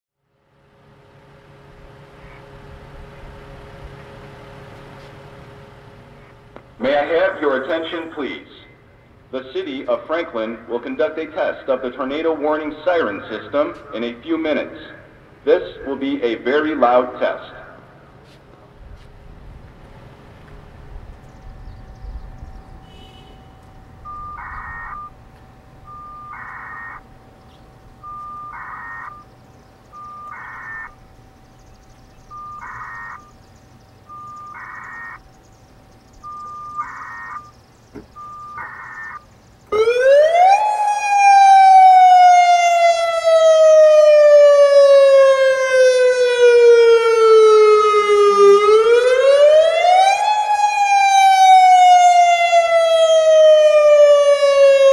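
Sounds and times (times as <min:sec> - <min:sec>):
tornado siren wailing: 0:06.8 - 0:18.1, 0:20.8 - 0:54.9.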